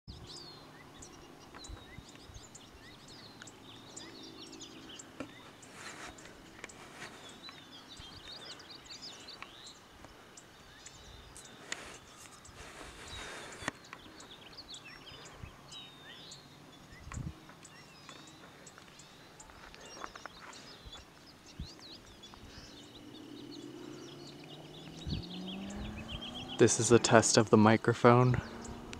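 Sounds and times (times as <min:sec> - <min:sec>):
songbirds chirping: 0:00.1 - 0:28.9.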